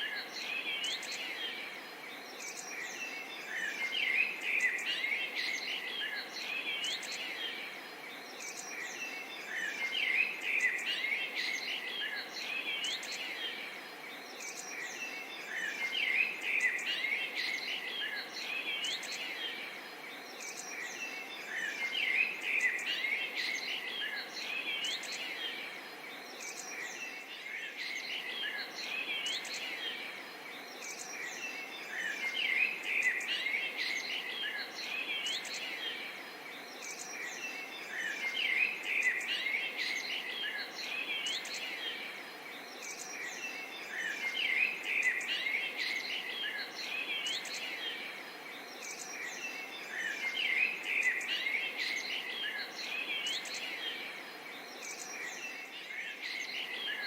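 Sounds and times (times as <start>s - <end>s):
crickets and insects: 0.0s - 57.0s
songbirds chirping and whistling: 0.0s - 57.0s.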